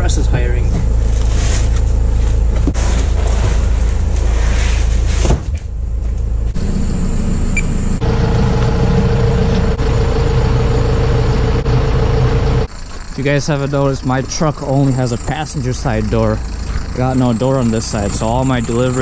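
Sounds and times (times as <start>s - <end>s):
engine whine: 0.0s - 19.0s
van engine idling: 0.0s - 19.0s.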